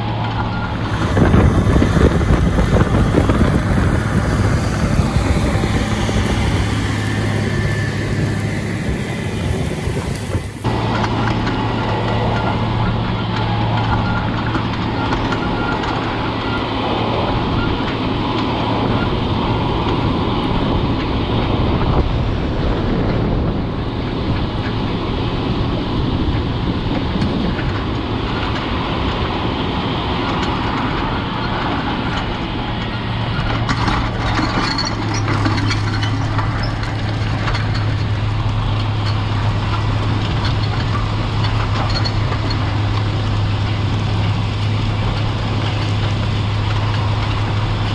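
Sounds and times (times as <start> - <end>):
tractor diesel engine drone: 0.0 - 47.9.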